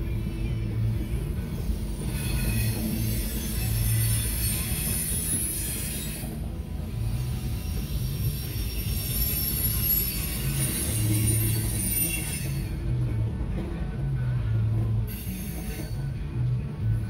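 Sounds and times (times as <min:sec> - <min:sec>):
train wheels rumbling on rail: 0:00.0 - 0:17.0
high wheel squeal: 0:00.5 - 0:13.0, 0:15.0 - 0:16.3.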